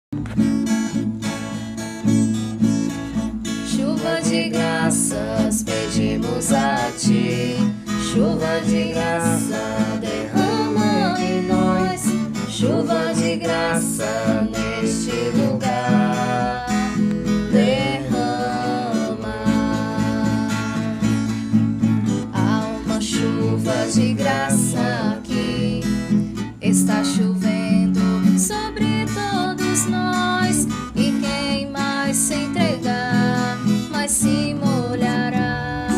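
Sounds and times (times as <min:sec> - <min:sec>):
acoustic guitar strumming: 0:00.1 - 0:35.9
person singing: 0:03.7 - 0:21.2, 0:22.3 - 0:35.9.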